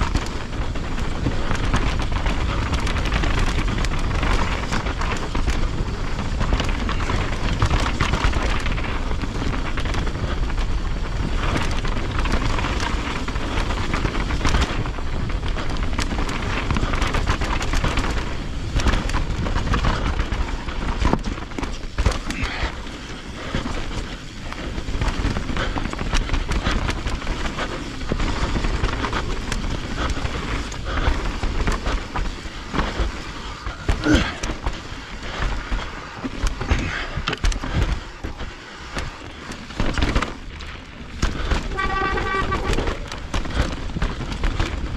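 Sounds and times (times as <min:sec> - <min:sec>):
bike rattling over bumps: 0:00.0 - 0:44.9
tyres on loose ground: 0:00.0 - 0:44.9
wind rumbling on microphone: 0:00.0 - 0:44.9.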